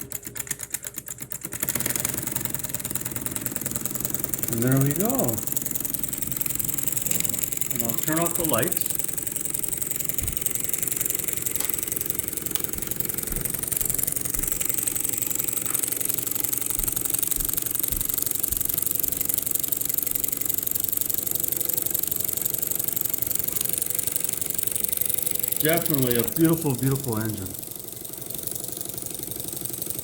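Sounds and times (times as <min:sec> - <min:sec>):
toy steam engine running: 0:00.0 - 0:30.0.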